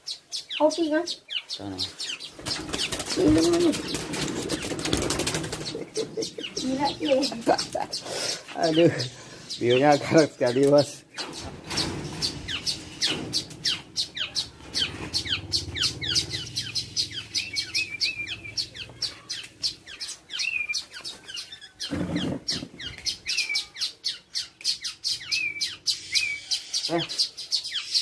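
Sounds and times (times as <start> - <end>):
warbled bird notes: 0.0 - 27.1
birds chirping rapidly: 0.0 - 28.0.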